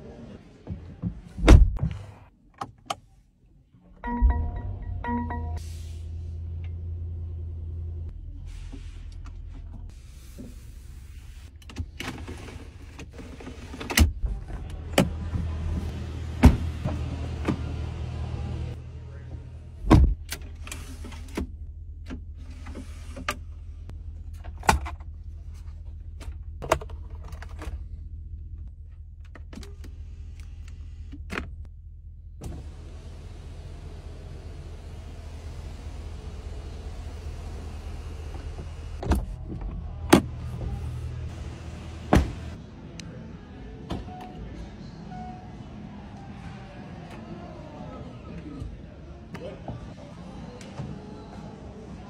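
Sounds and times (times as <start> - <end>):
engine low hum: 4.0 - 49.2.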